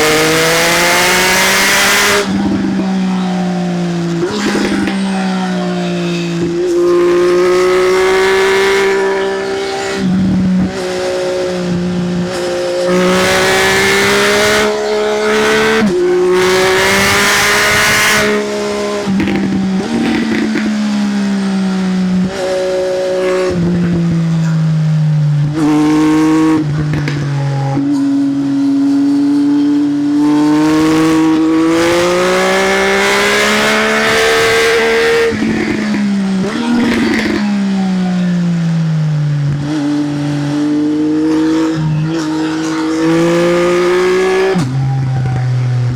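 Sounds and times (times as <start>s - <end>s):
gear changes: 0.0s - 45.9s
motorcycle engine revving: 0.0s - 45.9s.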